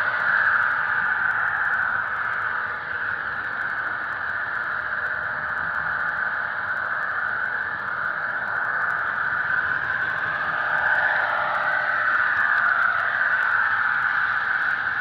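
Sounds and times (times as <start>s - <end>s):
model train wheels whirring on track: 0.0s - 15.0s.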